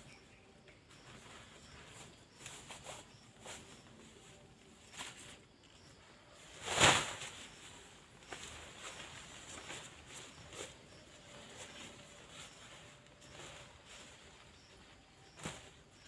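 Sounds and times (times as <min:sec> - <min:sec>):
camping gear rustling and knocking: 0:00.6 - 0:16.0.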